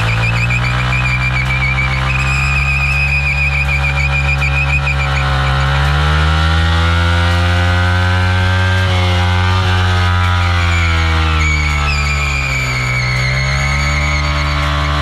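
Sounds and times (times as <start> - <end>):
motorcycle engine revving: 0.0 - 15.0
tyre squealing: 0.0 - 15.0.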